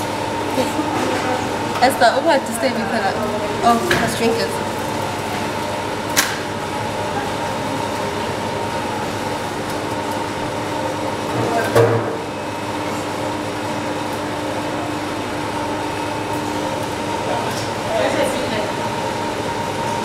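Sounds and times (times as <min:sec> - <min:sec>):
machinery hum with tones: 0:00.0 - 0:20.0.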